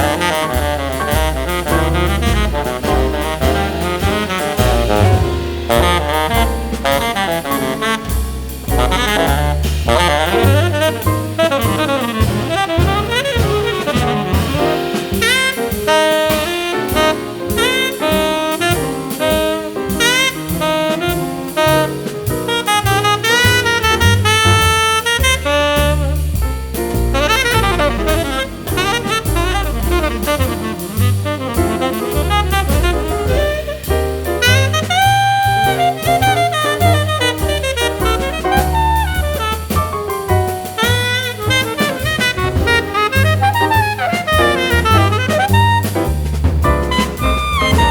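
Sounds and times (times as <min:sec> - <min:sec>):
jazz drums: 0:00.0 - 0:47.9
saxophone: 0:00.0 - 0:47.9
walking bass: 0:00.0 - 0:47.9.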